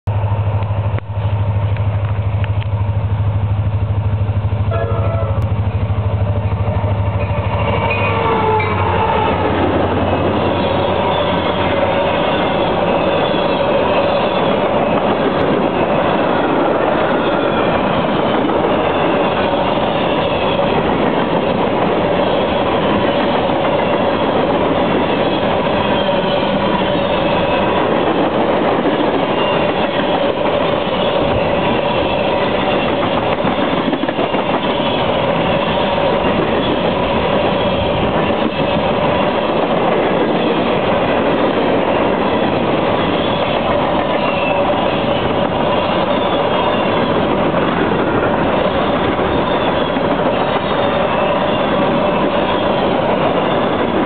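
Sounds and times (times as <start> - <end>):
diesel locomotive engine rumble: 0.0 - 54.0
train wheels clattering on rails: 0.5 - 54.0.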